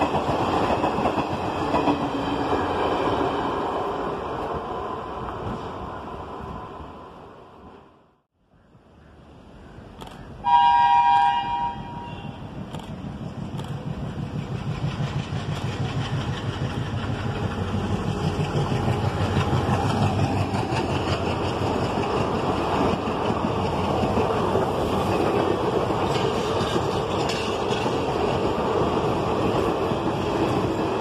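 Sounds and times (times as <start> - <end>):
train wheels rushing on rail: 0.0 - 7.8, 10.0 - 31.0
diesel locomotive engine: 0.0 - 8.2, 9.4 - 31.0.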